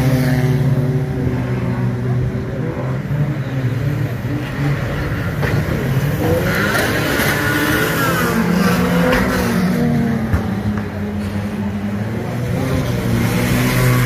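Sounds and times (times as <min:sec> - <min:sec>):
racing van engines revving: 0:00.0 - 0:14.0.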